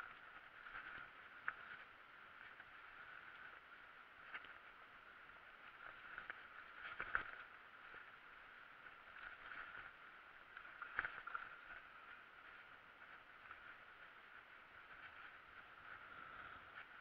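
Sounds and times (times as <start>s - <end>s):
bike tyres rolling on dirt: 0.0s - 17.0s.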